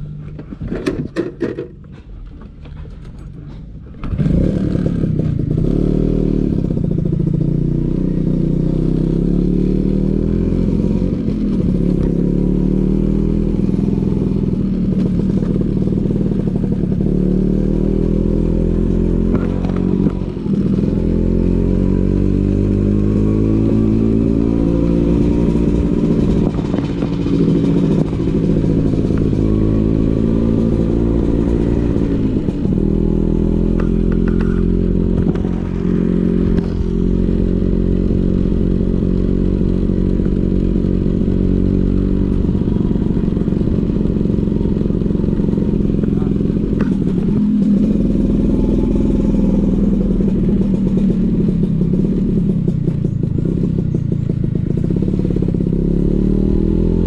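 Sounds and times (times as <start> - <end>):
scooter engine revving: 4.0 - 57.0.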